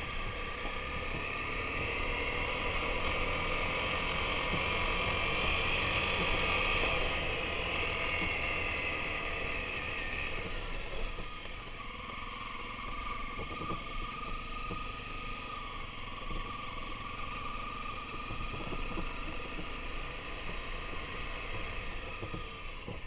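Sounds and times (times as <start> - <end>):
tyres on gravel road: 0.0 - 23.0
vehicle engine running: 0.0 - 23.0.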